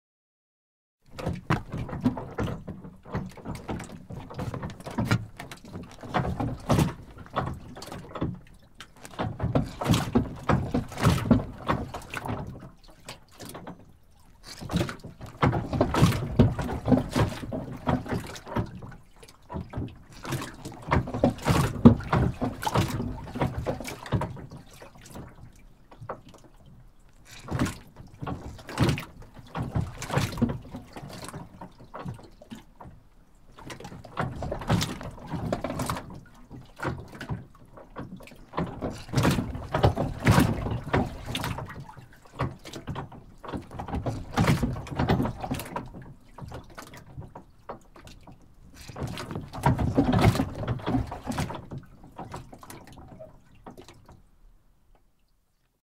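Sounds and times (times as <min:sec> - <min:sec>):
boat hull knocking: 0:01.1 - 0:13.9, 0:14.6 - 0:26.6, 0:27.3 - 0:32.9, 0:33.6 - 0:48.0
water splashing against boat hull: 0:01.1 - 0:55.8.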